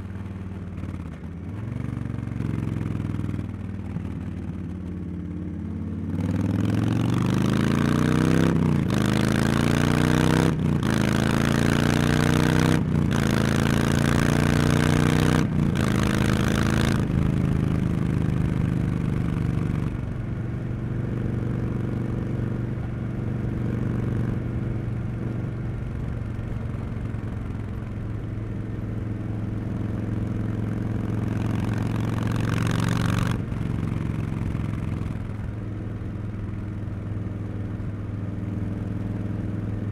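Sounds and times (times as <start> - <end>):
motorcycle cruising: 0.0 - 39.9
motorcycle engine accelerating: 0.0 - 39.9.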